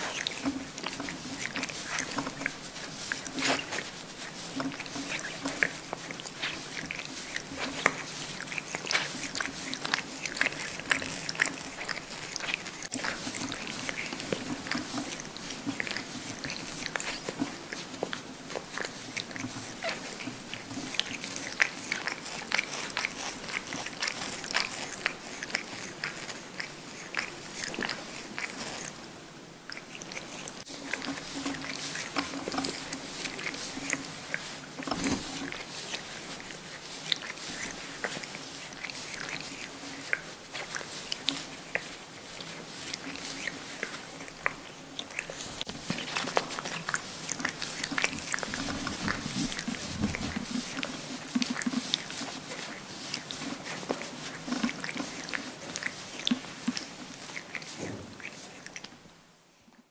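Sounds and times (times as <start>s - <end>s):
cat licking itself: 0.0s - 59.1s.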